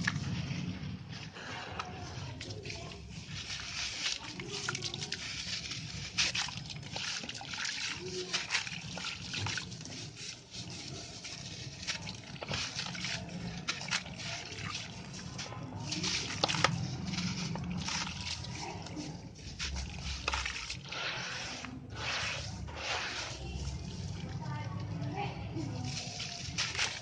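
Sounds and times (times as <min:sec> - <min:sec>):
concrete crumbling and crunching: 0:00.0 - 0:24.3, 0:25.8 - 0:27.0.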